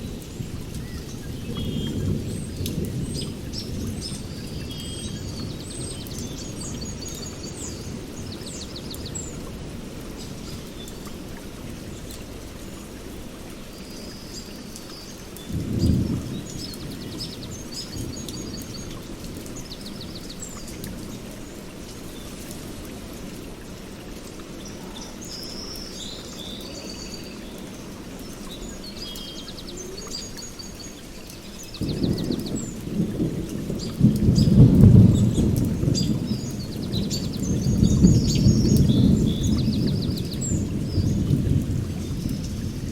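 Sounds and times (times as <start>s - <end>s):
songbirds calling and trilling: 0.0s - 42.9s.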